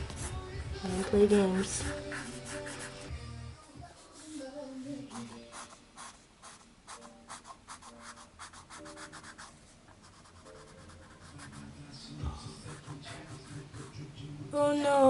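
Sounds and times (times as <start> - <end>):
pencil scratching on paper: 0.1 - 3.1, 4.0 - 14.0.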